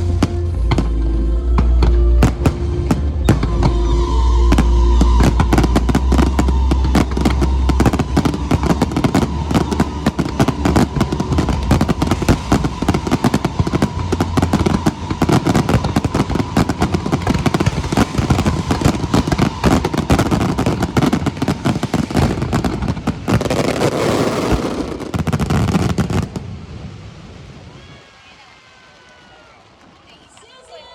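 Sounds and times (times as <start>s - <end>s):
fireworks crackling and popping: 0.0s - 28.2s
low firework booms: 1.6s - 27.6s.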